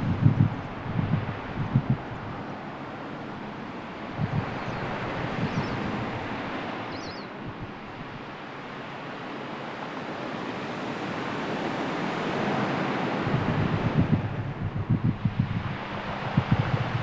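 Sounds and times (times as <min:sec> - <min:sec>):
wind buffeting microphone: 0:00.0 - 0:08.4, 0:11.0 - 0:17.0
sea waves washing: 0:00.0 - 0:17.0.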